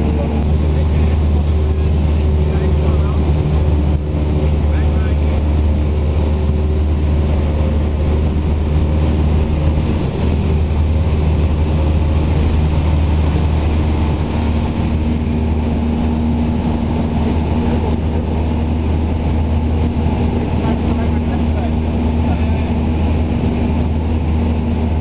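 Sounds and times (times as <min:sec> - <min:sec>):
airplane engine droning in cabin: 0:00.0 - 0:25.0.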